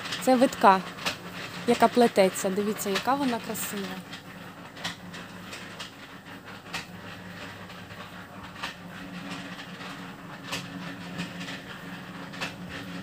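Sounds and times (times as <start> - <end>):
concrete mixer drum humming: 0.0 - 13.0.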